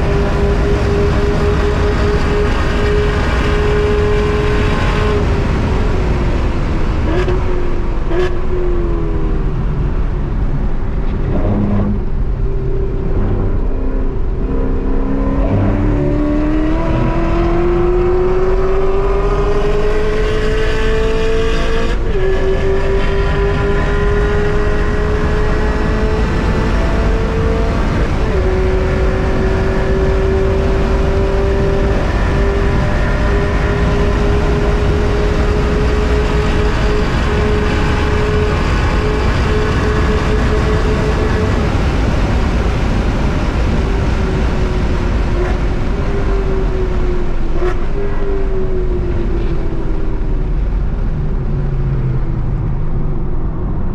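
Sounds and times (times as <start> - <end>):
car engine revving and shifting: 0.0 - 53.9.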